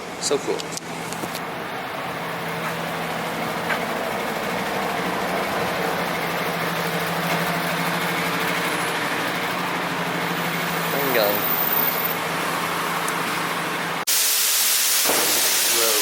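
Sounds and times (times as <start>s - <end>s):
vehicle engine hum and road noise: 0.0s - 14.1s.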